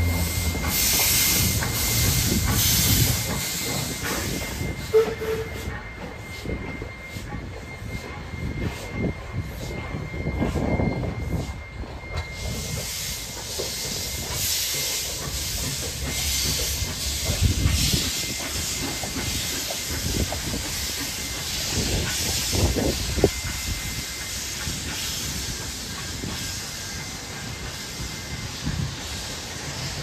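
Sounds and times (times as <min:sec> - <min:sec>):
rumble of moving coaches: 0:00.0 - 0:30.0
steam locomotive hissing in pulses: 0:00.0 - 0:30.0.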